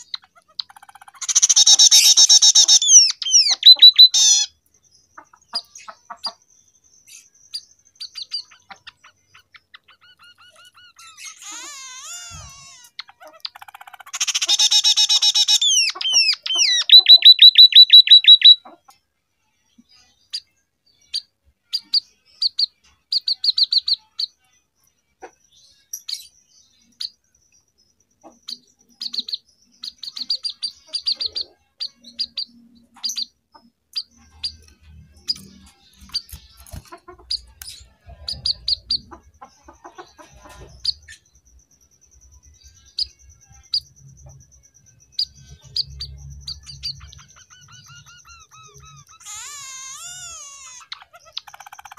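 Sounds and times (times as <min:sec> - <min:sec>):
small bird singing trills and chirps: 0:00.0 - 0:51.9.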